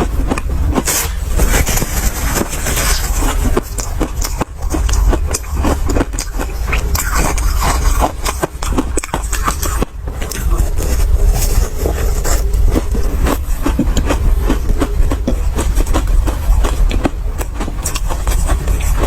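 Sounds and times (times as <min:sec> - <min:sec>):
deep rumble: 0:00.0 - 0:19.0
ice being crunched and chewed: 0:00.0 - 0:19.0.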